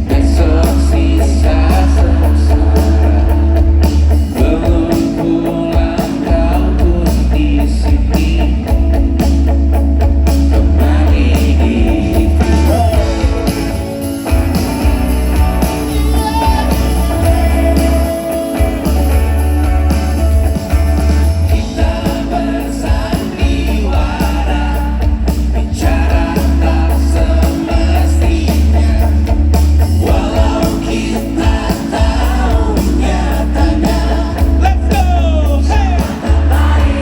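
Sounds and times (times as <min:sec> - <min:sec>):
person singing: 0:00.0 - 0:08.9, 0:10.6 - 0:14.2, 0:14.8 - 0:37.0
live rock band playing: 0:00.0 - 0:37.0.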